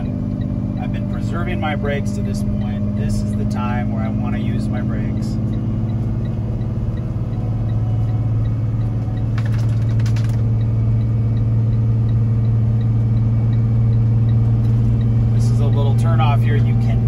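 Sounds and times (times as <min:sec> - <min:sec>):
diesel engine drone: 0:00.0 - 0:17.0
faint regular ticking: 0:00.0 - 0:17.0
road noise: 0:00.0 - 0:17.0.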